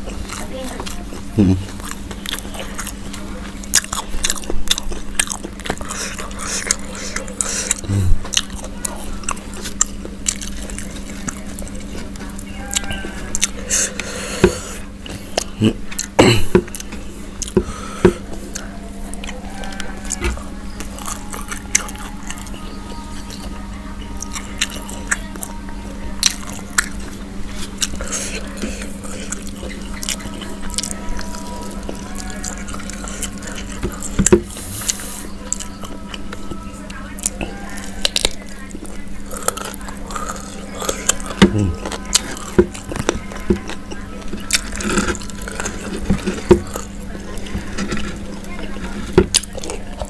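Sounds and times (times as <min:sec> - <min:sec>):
chewing and biting food: 0:00.0 - 0:50.0
steady low hum: 0:00.0 - 0:50.0.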